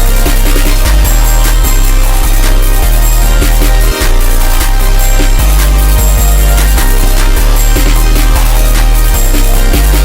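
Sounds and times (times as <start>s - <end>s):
loud electronic music: 0.0s - 10.0s.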